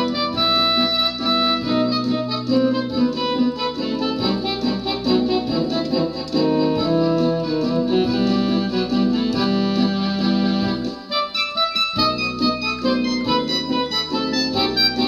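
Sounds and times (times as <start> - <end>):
electronic keyboard organ melody: 0.0 - 15.0.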